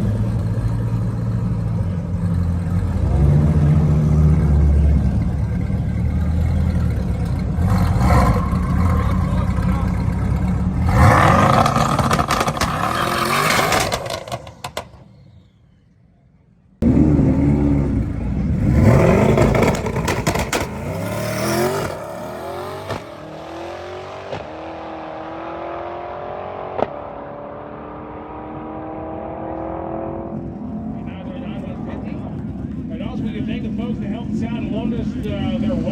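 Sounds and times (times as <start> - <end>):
car engines revving: 0.0 - 15.1, 16.8 - 35.9.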